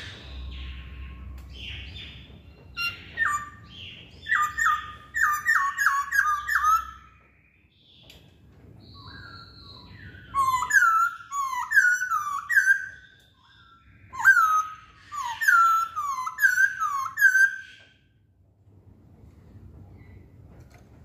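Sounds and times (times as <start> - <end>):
bird singing whistled notes: 0.0 - 8.2, 8.8 - 18.1.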